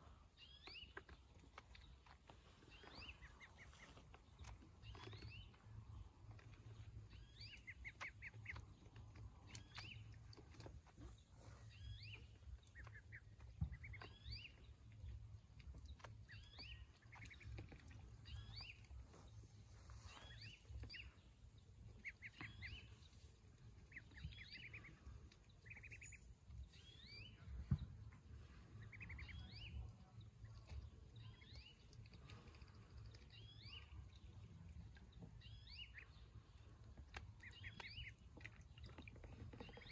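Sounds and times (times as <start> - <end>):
low steady rumble: 0.0 - 39.9
ducklings peeping: 0.2 - 39.9.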